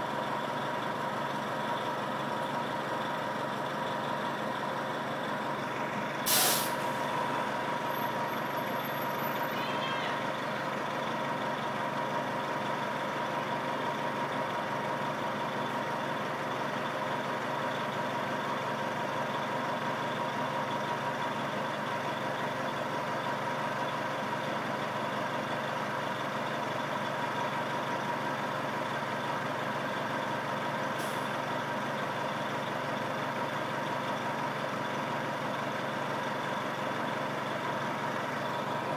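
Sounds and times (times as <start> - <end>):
bus steady tone: 0.0 - 38.9.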